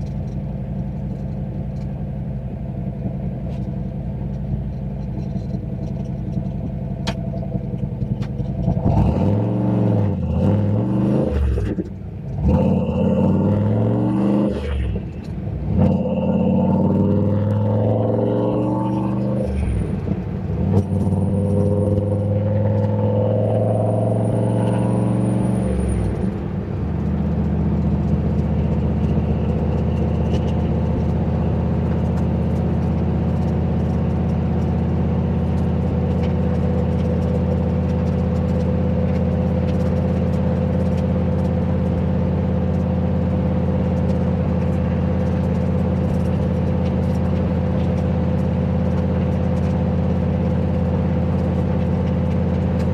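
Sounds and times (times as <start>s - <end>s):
car engine running and revving: 0.0s - 52.9s.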